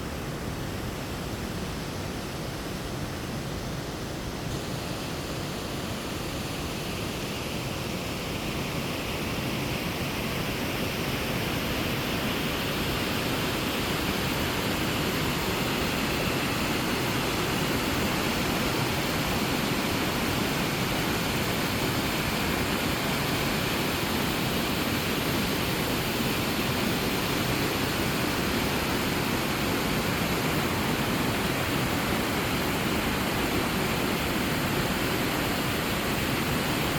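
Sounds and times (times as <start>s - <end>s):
mountain stream rushing: 0.0s - 36.9s.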